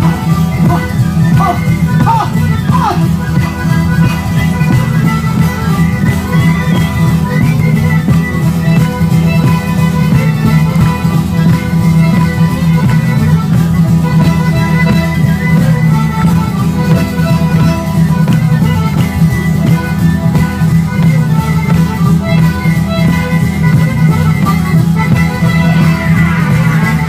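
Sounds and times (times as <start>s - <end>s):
guitar accompaniment: 0.0s - 27.0s
live band playing: 0.0s - 27.0s
violin melody: 0.0s - 27.0s.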